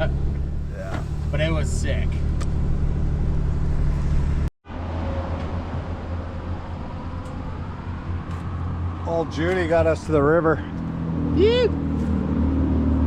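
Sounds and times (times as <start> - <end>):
truck engine and road drone: 0.0 - 13.0.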